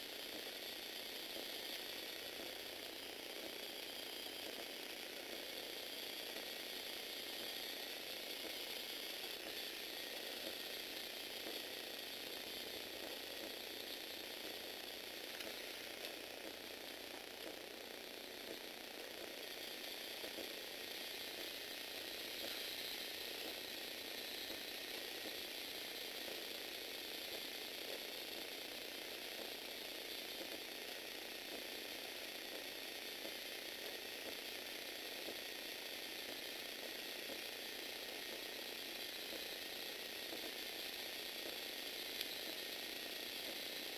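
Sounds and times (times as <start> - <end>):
small electric motor and gears rattling: 0.0 - 43.9.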